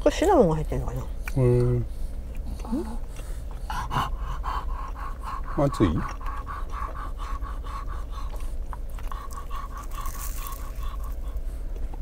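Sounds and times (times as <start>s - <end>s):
dog panting rapidly: 0.2s - 12.0s.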